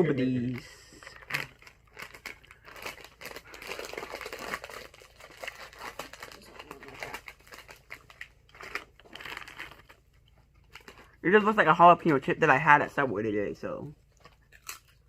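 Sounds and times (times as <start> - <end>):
chip bag crinkling: 0.0 - 12.6, 14.0 - 15.0.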